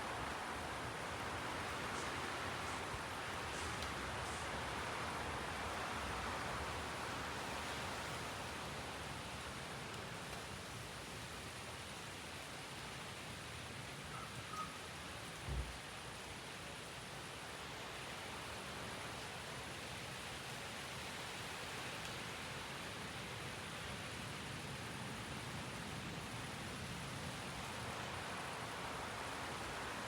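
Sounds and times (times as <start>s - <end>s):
rain with wind: 0.0s - 30.0s.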